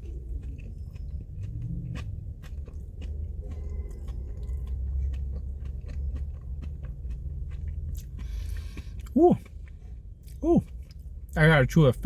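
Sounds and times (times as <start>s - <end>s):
person chewing food: 0.0s - 11.4s
steady low rumble: 0.0s - 12.0s.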